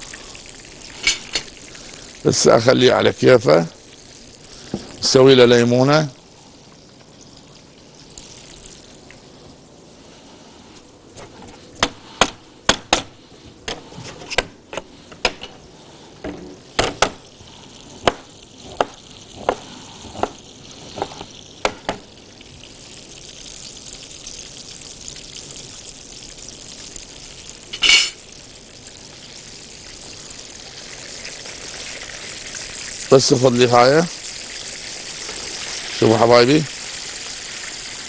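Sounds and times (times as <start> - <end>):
oil sizzling in a pan: 0.0 - 10.6, 15.8 - 38.0.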